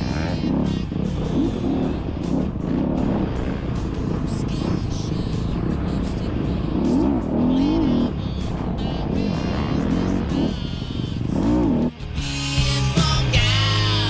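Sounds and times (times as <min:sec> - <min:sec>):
dirt bike engine revving: 0:00.0 - 0:14.0
music with steady beat: 0:00.0 - 0:14.0.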